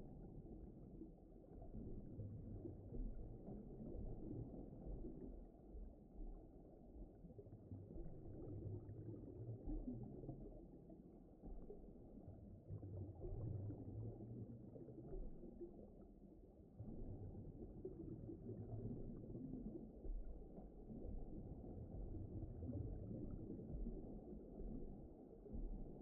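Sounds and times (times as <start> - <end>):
muffled underwater rumble: 0.0 - 26.0.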